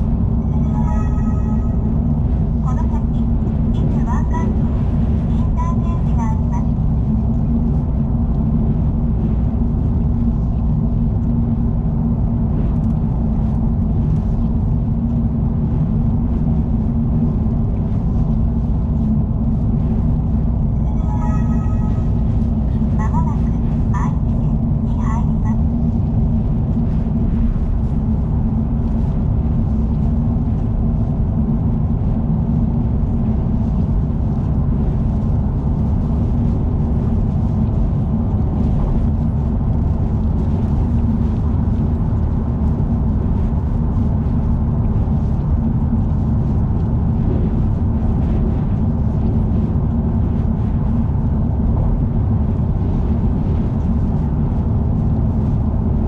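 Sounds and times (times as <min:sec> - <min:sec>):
car driving at speed: 0:00.0 - 0:56.0.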